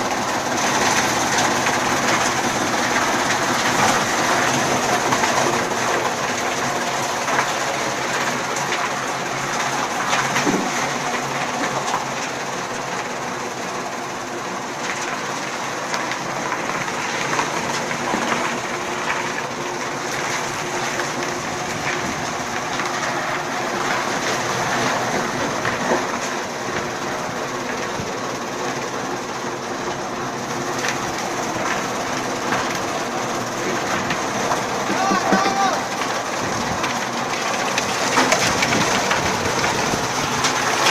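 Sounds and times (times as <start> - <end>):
chaff cutter mechanical hum: 0.0 - 40.9.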